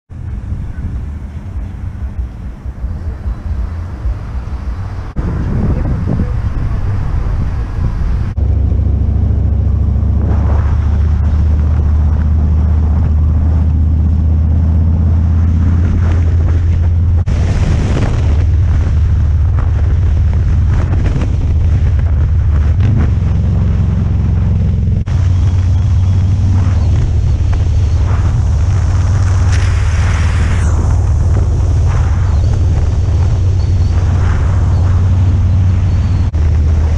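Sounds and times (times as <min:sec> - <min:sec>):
motorcycle engine rumbling: 0:00.1 - 0:36.9
wind buffeting on microphone: 0:00.1 - 0:36.9.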